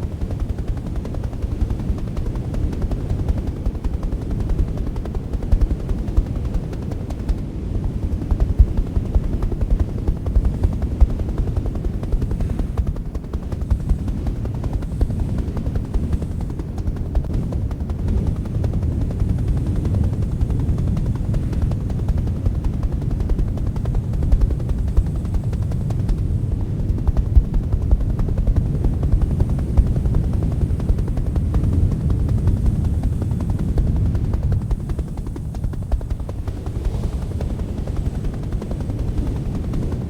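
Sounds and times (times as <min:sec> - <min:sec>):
loud low fluttering rumble: 0:00.0 - 0:40.0.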